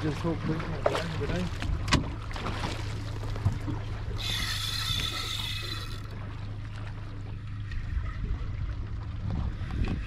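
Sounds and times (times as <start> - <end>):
outboard motor idling: 0.0 - 10.0
water washing at hull: 0.0 - 10.0.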